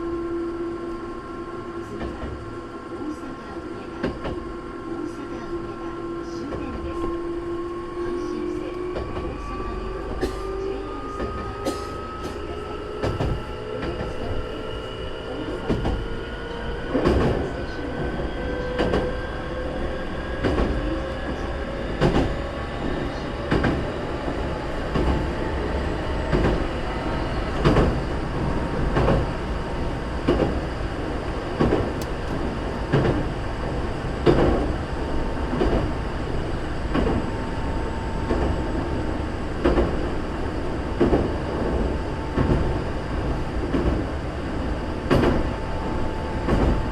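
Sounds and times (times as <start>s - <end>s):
train wheels rumbling on rails: 1.8s - 46.9s.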